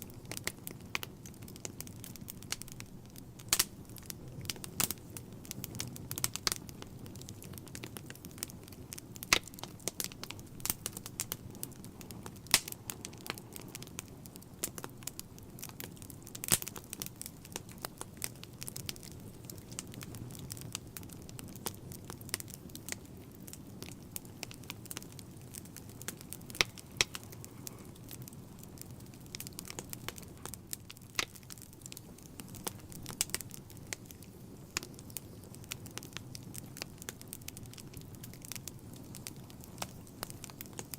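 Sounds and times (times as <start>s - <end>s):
fire rumbling in a fireplace: 0.0s - 40.9s
logs crackling and popping: 0.0s - 40.9s.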